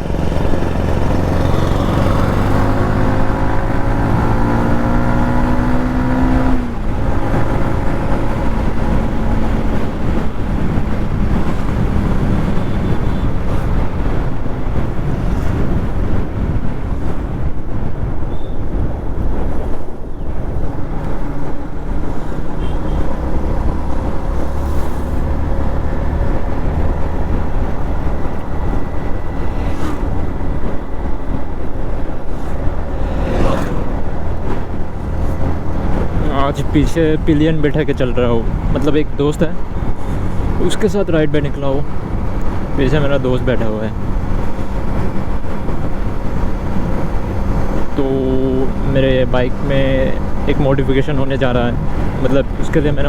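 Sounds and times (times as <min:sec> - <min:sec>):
motorcycle engine accelerating: 0:00.0 - 0:53.0
wind noise on microphone: 0:00.0 - 0:53.0.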